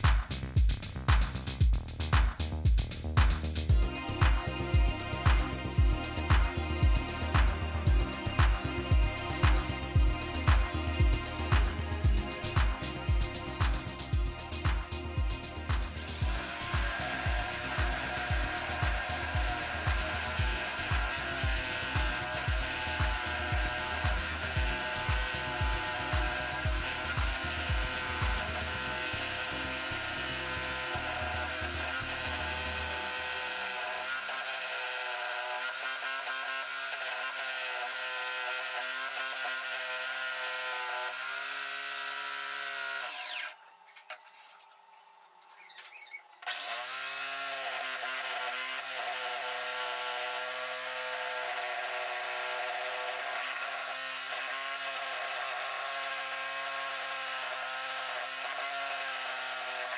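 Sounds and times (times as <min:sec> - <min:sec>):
scroll saw cutting board: 0:03.2 - 0:59.9.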